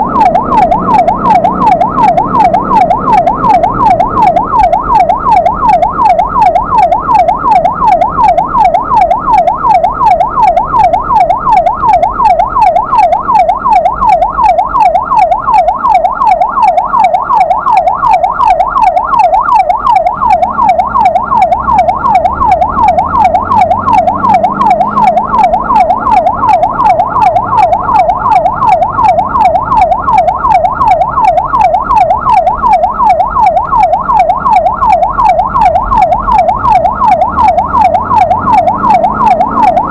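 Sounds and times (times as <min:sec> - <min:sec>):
ambulance siren yelping: 0:00.0 - 0:39.9
vehicle engine rumbling: 0:00.0 - 0:39.9.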